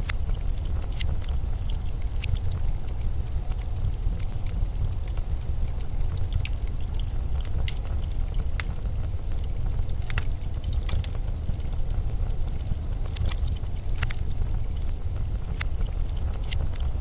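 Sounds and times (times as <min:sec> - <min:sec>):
sharp ticks and crackles: 0:00.0 - 0:17.0
snowstorm wind rumbling: 0:00.0 - 0:17.0.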